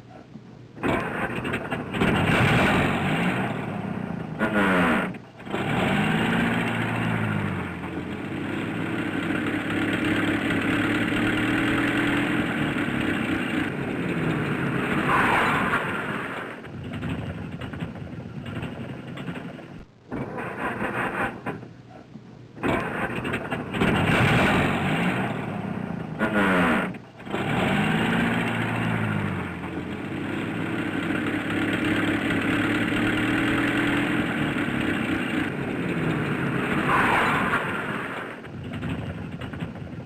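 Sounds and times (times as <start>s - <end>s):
car engine revving: 0.8s - 21.6s, 22.6s - 40.0s.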